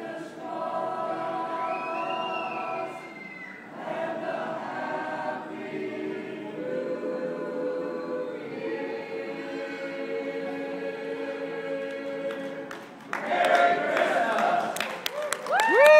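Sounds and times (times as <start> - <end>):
men's chorus singing a cappella: 0.0 - 14.8.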